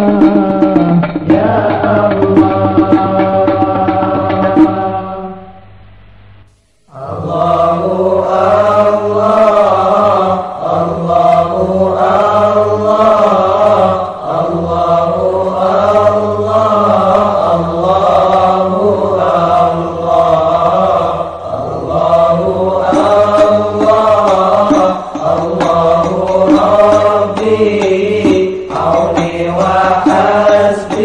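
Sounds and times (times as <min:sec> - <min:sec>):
group chanting devotional song: 0:00.0 - 0:31.0.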